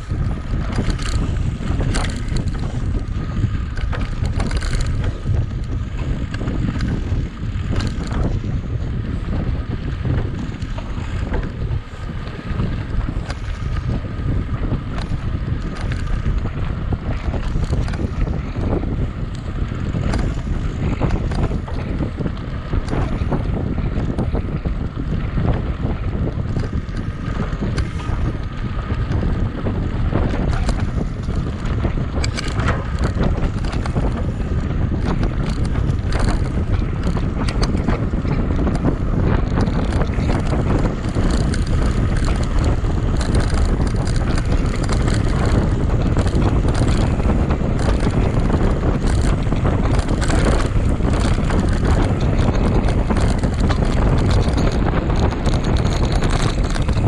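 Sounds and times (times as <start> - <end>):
bike rattling on rough ground: 0.0 - 57.0
wind buffeting microphone: 0.0 - 57.0.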